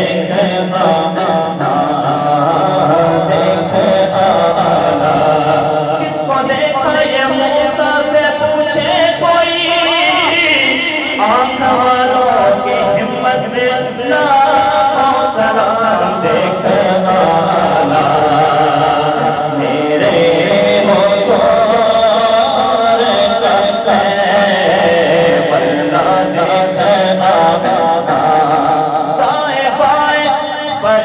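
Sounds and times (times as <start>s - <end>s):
man chanting devotional poem: 0.0s - 31.0s.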